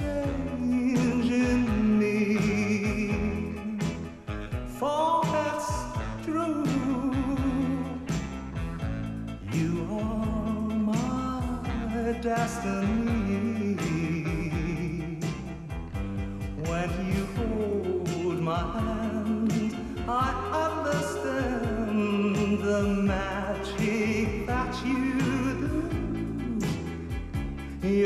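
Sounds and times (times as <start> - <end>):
live band playing pop ballad: 0.0 - 28.0
man singing with vibrato: 0.0 - 28.0.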